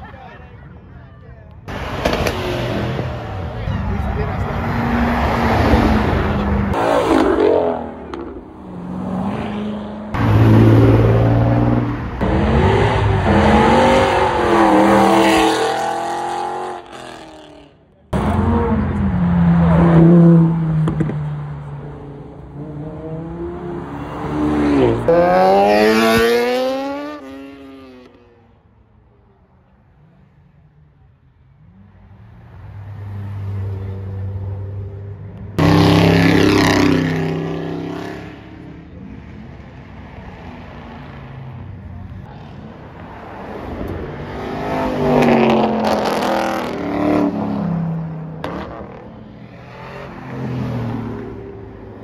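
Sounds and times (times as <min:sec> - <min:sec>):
cars accelerating past: 0:01.7 - 0:28.4, 0:31.5 - 0:52.0.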